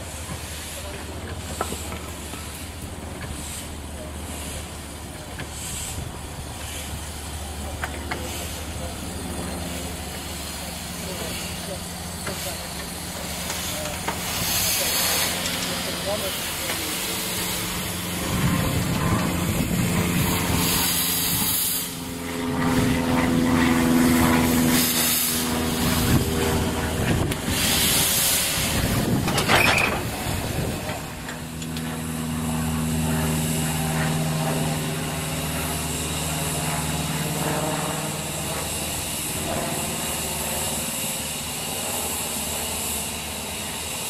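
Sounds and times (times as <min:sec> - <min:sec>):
steam hissing: 0:00.0 - 0:33.7, 0:38.2 - 0:44.0.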